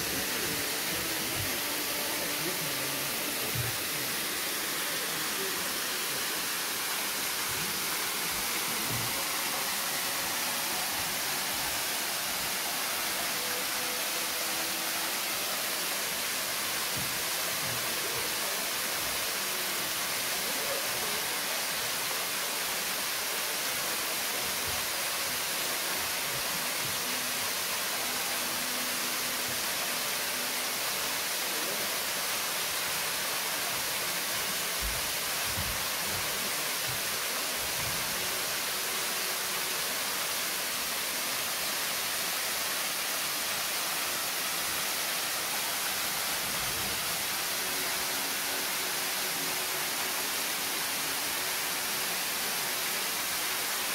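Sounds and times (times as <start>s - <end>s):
waterfall hissing: 0.0s - 53.9s.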